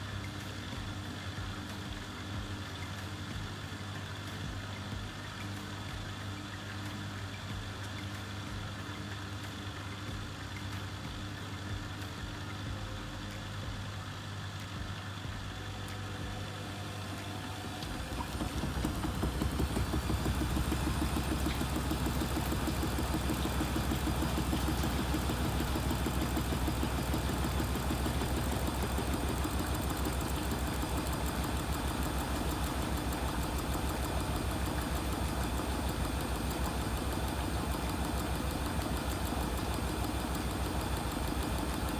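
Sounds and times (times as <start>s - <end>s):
washing machine spinning: 7.4s - 41.9s.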